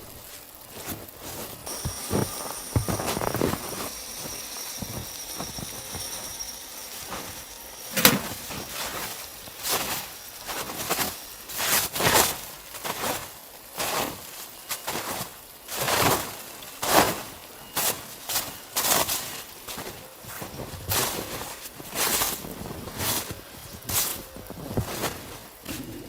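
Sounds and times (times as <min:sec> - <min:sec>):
footsteps crunching in snow: 0:00.0 - 0:26.0.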